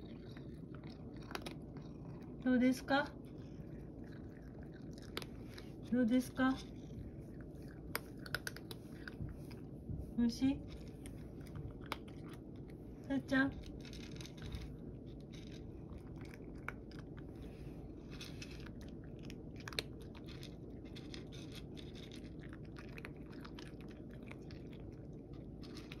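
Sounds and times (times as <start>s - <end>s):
cat crunching dry kibble: 0.0s - 9.8s, 10.6s - 26.0s.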